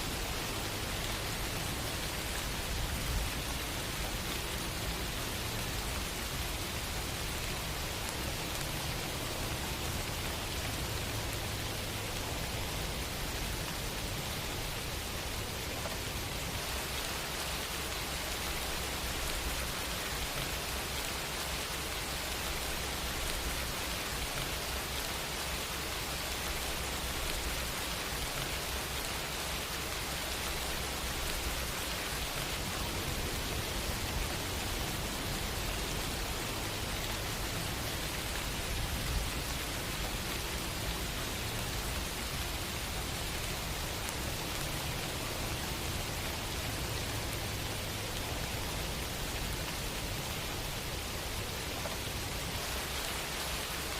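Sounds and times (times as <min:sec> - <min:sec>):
rain falling on a surface: 0:00.0 - 0:53.9.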